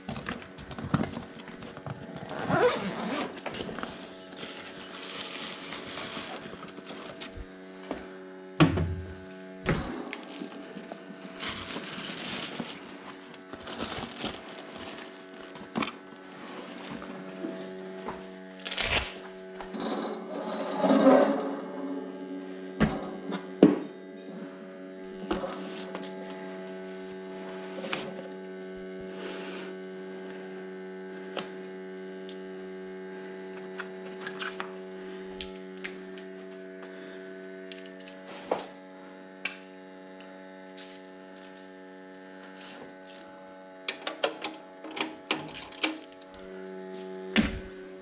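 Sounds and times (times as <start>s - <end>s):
electrical hum: 0.0s - 48.0s.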